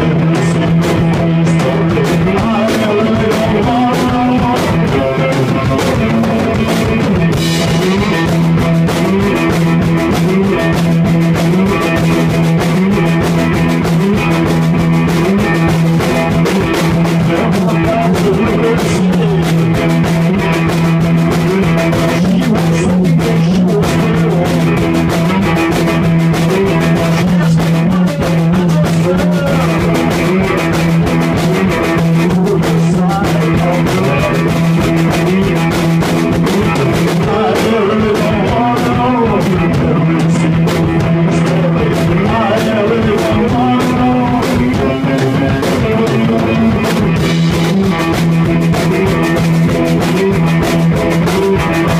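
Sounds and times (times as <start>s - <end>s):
electric guitar rock rhythm: 0.0s - 51.9s
percussive beat: 0.0s - 51.9s.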